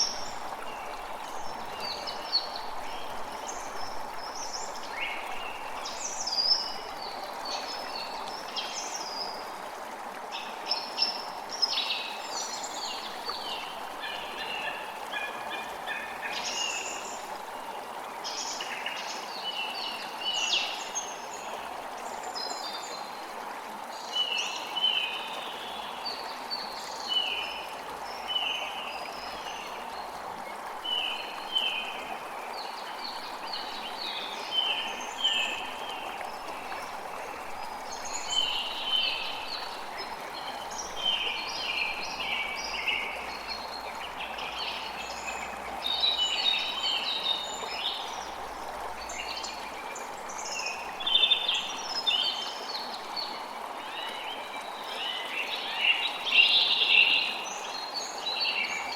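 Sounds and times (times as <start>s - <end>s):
creek running: 0.0s - 58.9s.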